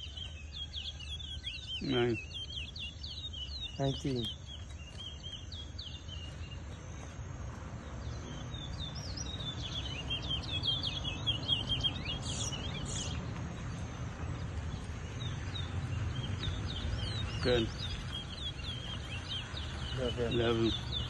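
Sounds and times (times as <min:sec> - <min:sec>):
finch chirping song: 0:00.0 - 0:21.0.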